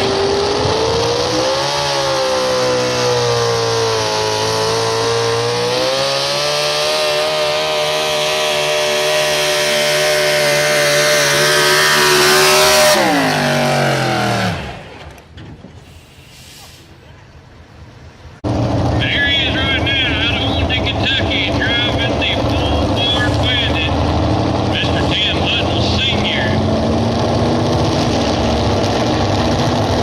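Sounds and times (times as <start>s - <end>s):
engine winding down: 0.0s - 15.3s, 18.4s - 30.0s
truck engine at full throttle: 0.0s - 30.0s.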